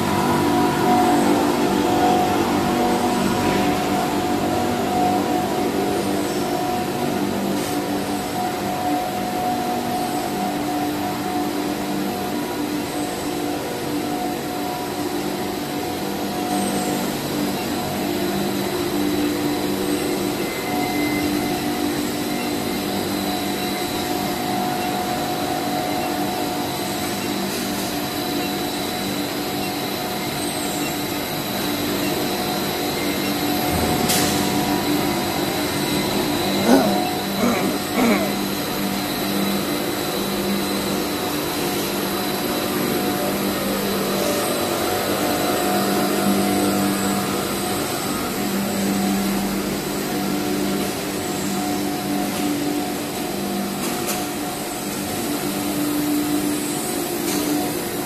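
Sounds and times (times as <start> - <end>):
extrusion machinery humming: 0.0 - 58.0.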